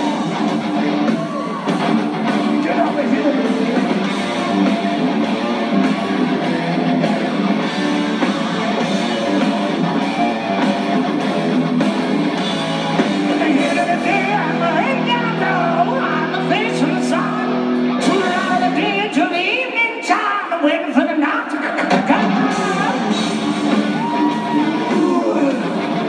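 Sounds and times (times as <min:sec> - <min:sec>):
rock music with electric guitar: 0:00.0 - 0:26.0.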